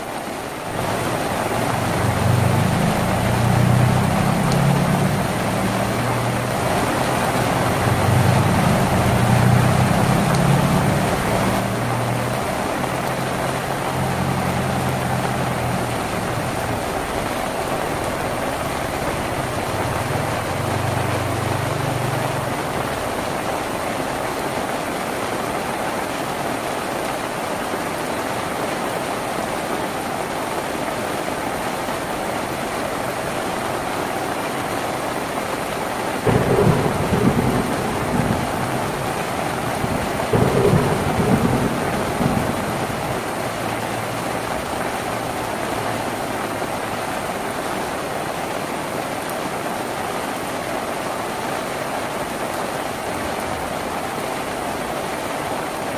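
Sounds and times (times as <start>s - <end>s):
rain drumming on tin roof: 0.0s - 55.9s.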